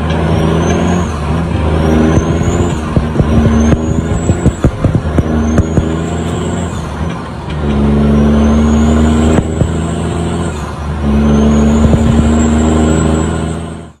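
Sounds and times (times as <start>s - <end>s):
truck engine pulling through gears: 0.0s - 14.0s.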